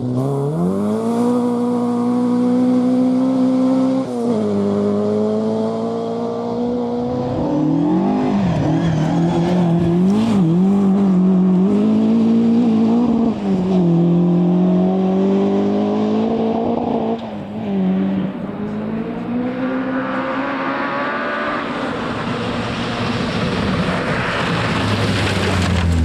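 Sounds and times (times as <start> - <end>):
rally car engine under hard throttle: 0.0 - 26.0.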